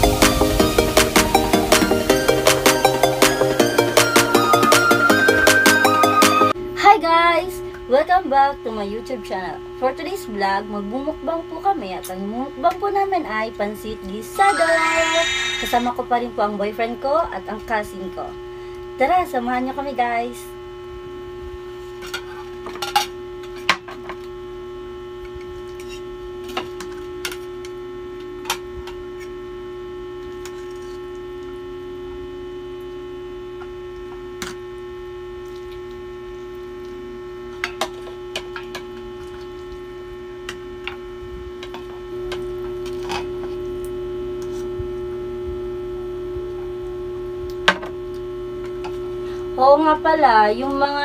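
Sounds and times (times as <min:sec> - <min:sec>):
steady electrical hum: 0:06.5 - 0:51.0.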